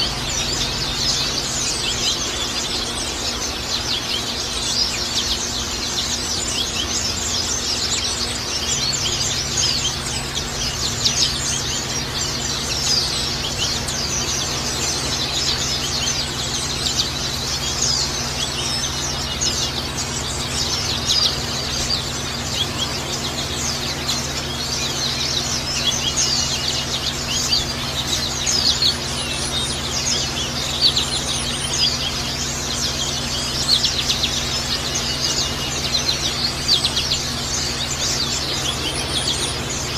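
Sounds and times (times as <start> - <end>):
birds twittering: 0.0 - 39.9
steady low hum: 0.0 - 39.9.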